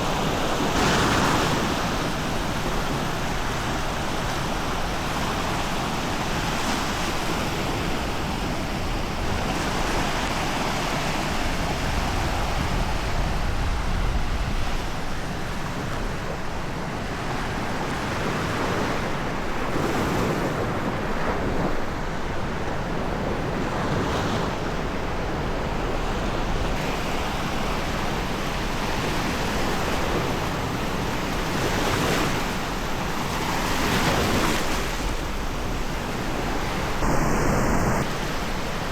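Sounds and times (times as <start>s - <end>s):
surf washing onto beach: 0.0s - 38.9s
wind rumble on microphone: 0.0s - 38.9s.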